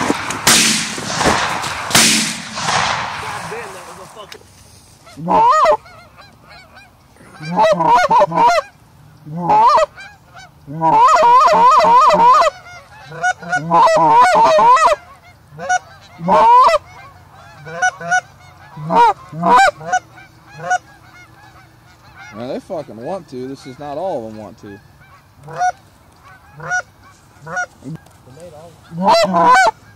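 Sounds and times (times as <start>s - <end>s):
goose honking and clucking: 5.0s - 29.9s.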